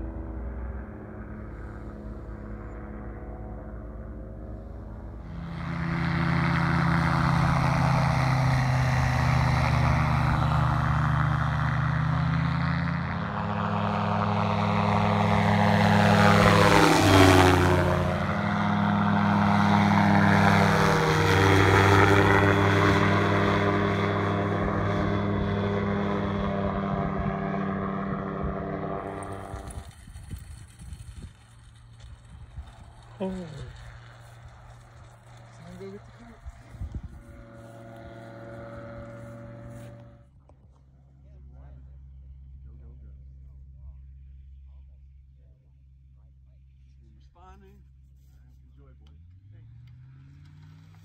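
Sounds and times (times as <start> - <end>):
light plane engine droning: 0.0 - 51.0.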